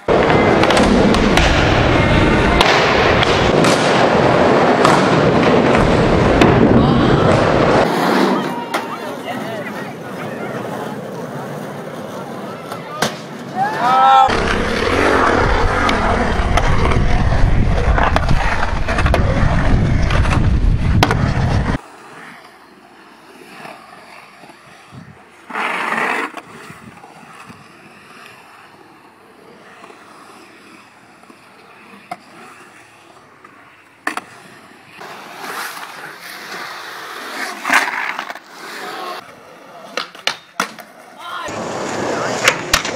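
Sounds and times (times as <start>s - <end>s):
skateboard wheels rolling on concrete: 0.0s - 42.9s.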